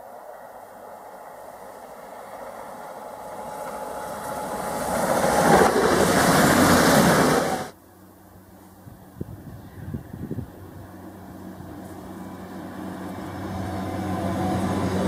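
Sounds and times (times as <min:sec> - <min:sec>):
train passing at speed: 0:00.0 - 0:09.7, 0:10.4 - 0:15.0.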